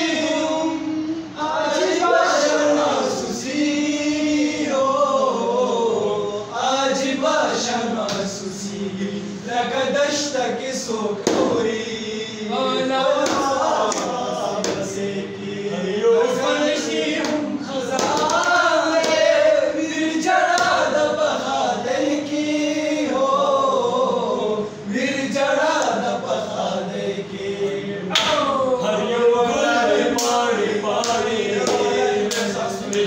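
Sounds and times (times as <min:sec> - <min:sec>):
men singing unaccompanied: 0:00.0 - 0:33.0.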